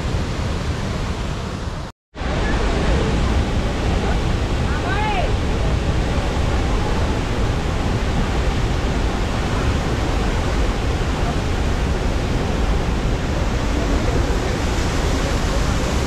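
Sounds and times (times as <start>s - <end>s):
loud rushing waterfall: 0.0s - 16.0s.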